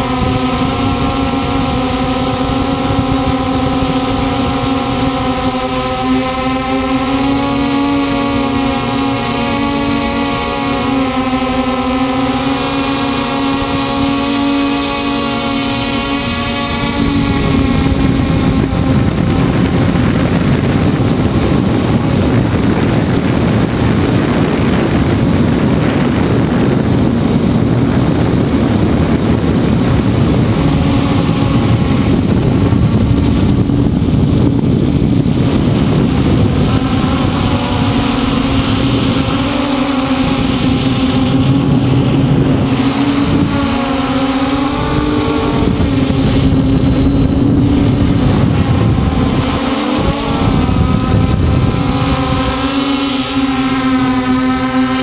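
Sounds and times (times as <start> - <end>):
drone motors humming: 0.0 - 55.0
wind rushing over microphone: 0.0 - 55.0.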